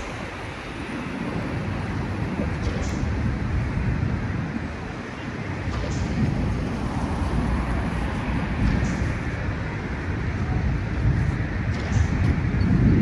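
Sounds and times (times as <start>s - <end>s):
storm wind gusting on microphone: 0.0s - 13.0s.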